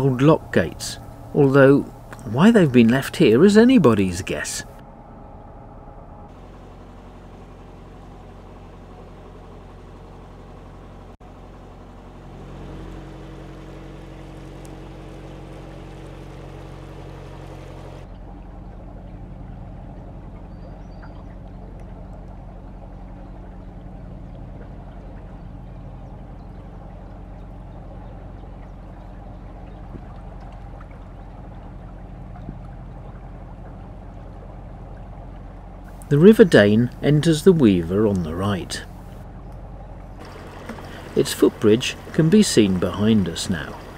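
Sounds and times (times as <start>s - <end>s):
boat diesel engine humming: 0.0s - 43.9s
water noise around hull: 0.0s - 43.9s.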